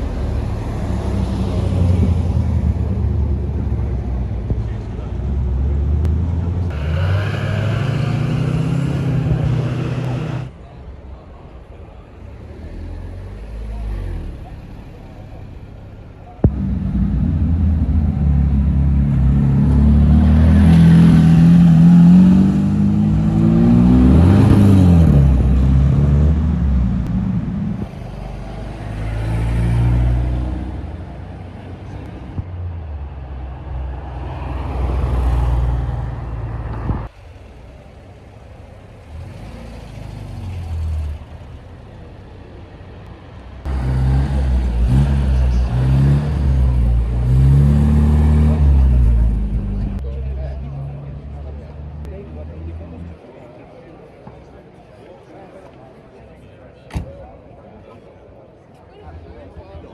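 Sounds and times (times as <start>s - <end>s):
car accelerating away: 0.0s - 10.7s, 11.4s - 43.0s, 43.6s - 53.2s
car engines revving: 0.0s - 53.3s.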